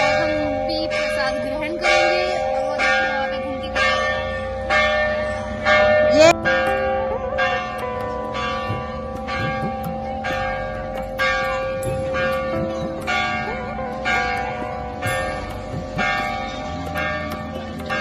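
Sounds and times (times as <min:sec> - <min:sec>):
temple bell ringing: 0:00.0 - 0:18.0.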